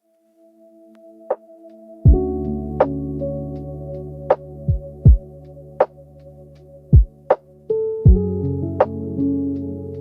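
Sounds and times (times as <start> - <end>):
soft sustained chords: 0.0 - 10.0.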